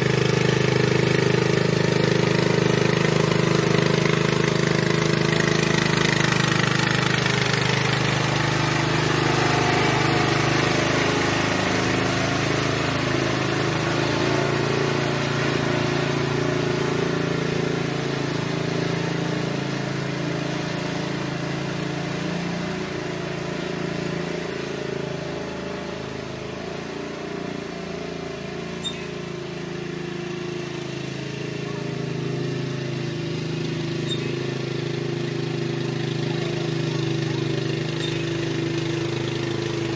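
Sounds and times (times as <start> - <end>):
riding lawn mower engine: 0.0 - 39.9.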